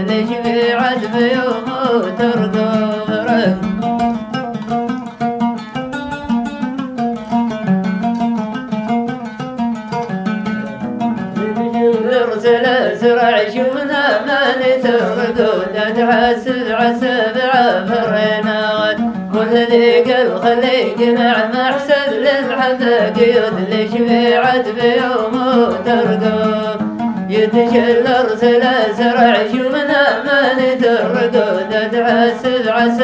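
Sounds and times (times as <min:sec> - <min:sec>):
man singing melismatic notes: 0:00.0 - 0:04.5, 0:11.0 - 0:33.0
plucked string instrument: 0:00.0 - 0:33.0.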